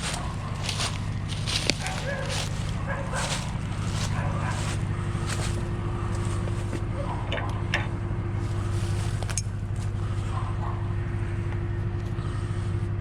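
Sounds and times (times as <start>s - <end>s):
heavy vehicle engine idling: 0.0s - 13.0s.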